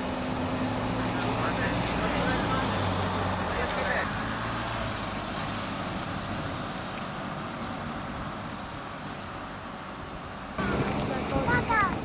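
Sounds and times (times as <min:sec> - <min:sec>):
car driving past slowly: 0:00.0 - 0:12.0.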